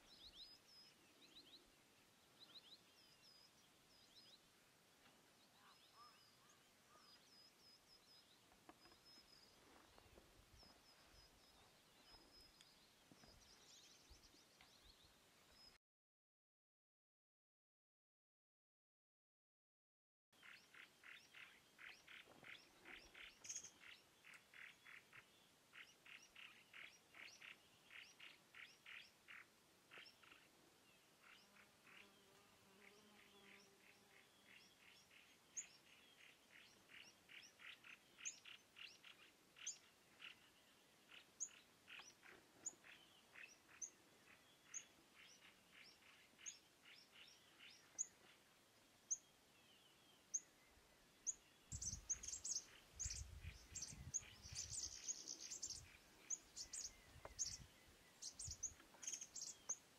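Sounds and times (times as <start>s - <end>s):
bird chirping: 0.0s - 15.8s, 20.4s - 59.9s.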